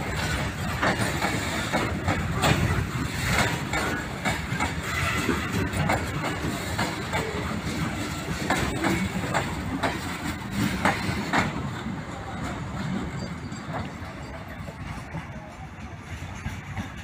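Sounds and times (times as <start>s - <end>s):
low train rumble: 0.0s - 17.0s
train wheels clacking over rail joints: 0.0s - 17.0s.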